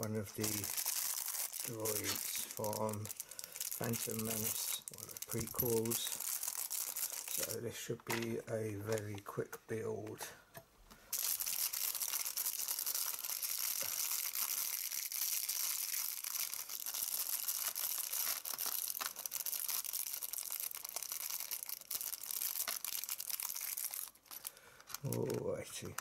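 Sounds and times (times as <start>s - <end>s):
plastic bag crinkling: 0.0s - 9.4s, 11.1s - 26.0s.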